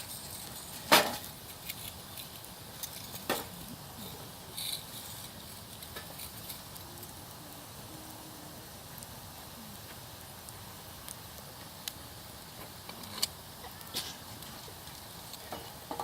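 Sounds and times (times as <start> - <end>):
sharp fire pops: 0.0 - 7.4, 8.8 - 16.0
campfire crackling: 0.0 - 16.0.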